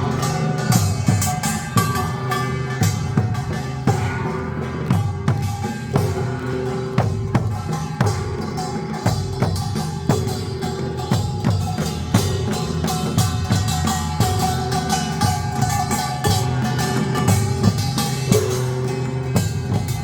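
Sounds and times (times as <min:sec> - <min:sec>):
drums struck in steady beat: 0:00.0 - 0:20.0.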